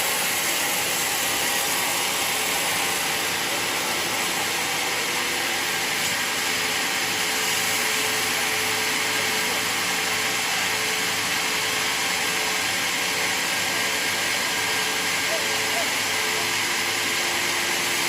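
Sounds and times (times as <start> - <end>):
portable sawmill running: 0.0 - 18.0.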